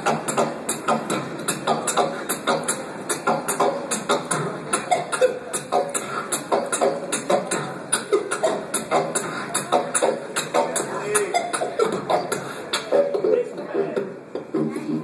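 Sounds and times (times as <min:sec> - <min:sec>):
man beatboxing: 0:00.0 - 0:15.0.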